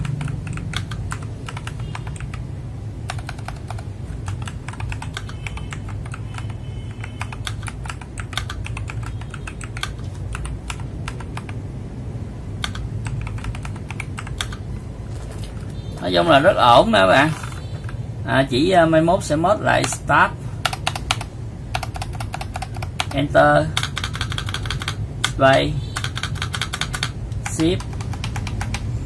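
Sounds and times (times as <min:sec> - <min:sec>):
mechanical keyboard typing: 0:00.0 - 0:11.6, 0:12.6 - 0:16.1, 0:19.7 - 0:28.9.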